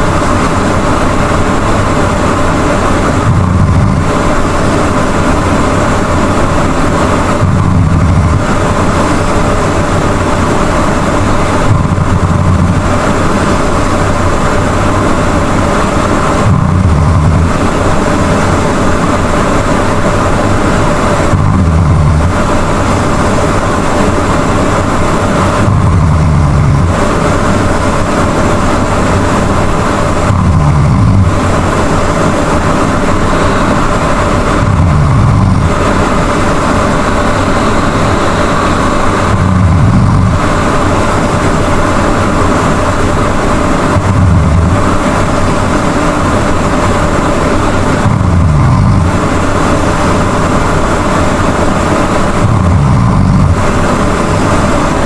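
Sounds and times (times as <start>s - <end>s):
steady background noise: 0.0s - 55.0s.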